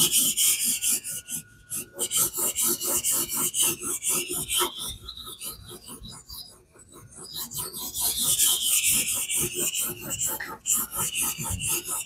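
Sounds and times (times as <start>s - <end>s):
knife scraping on whetstone: 0.0s - 12.0s.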